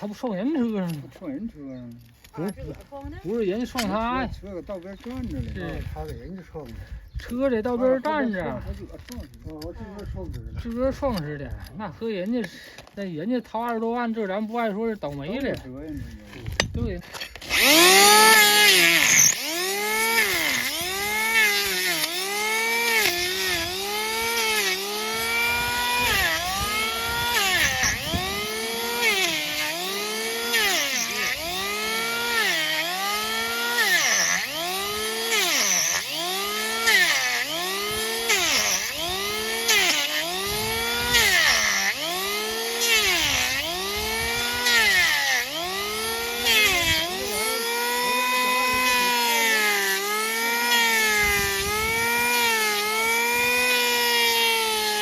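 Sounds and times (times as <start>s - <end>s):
power tool grinding hoof: 0.0s - 11.5s, 12.1s - 55.0s.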